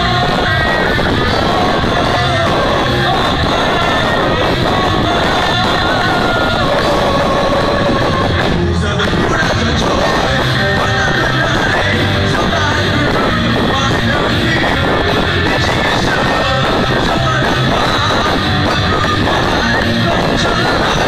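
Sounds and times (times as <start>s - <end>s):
loud rock music with singing: 0.0s - 21.0s.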